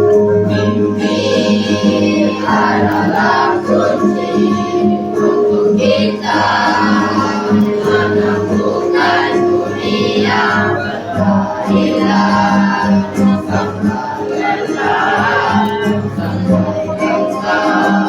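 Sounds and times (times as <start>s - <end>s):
choir singing sustained notes: 0.5s - 18.0s.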